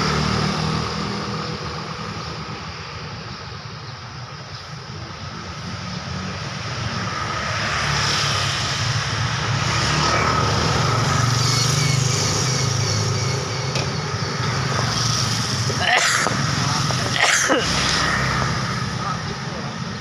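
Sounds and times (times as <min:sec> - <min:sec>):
road traffic noise: 0:00.0 - 0:20.0
vehicle engine running close: 0:00.0 - 0:20.0.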